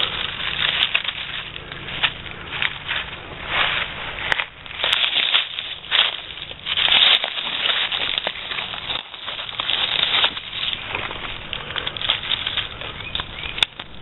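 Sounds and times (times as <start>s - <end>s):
dry leaves rustling and crackling: 0.0s - 14.0s.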